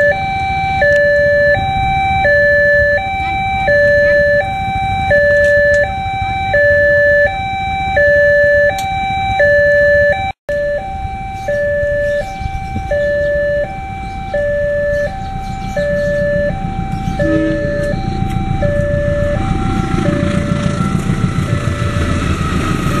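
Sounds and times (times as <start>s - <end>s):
two-tone level crossing alarm: 0.0s - 23.0s.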